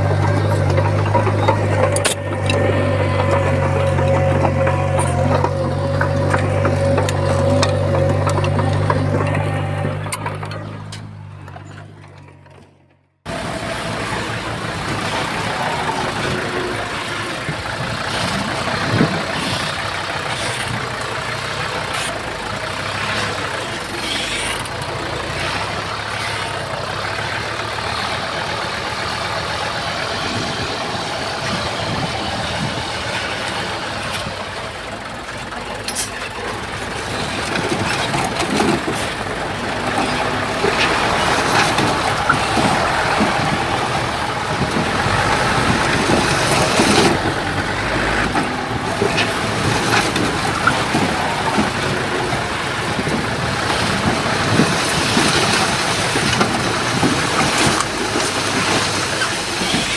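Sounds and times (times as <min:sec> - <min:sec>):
heavy machinery engines: 0:00.0 - 0:59.9
knocks and clanks: 0:00.0 - 0:59.9.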